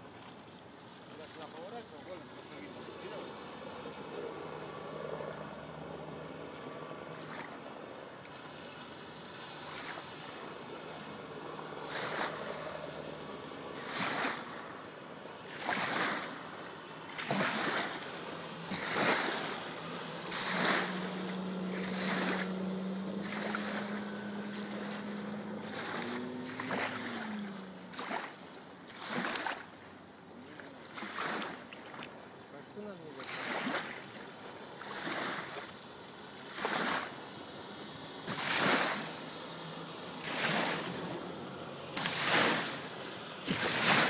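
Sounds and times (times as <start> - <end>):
outboard motor droning: 0.0 - 44.0
wake waves splashing: 0.0 - 44.0.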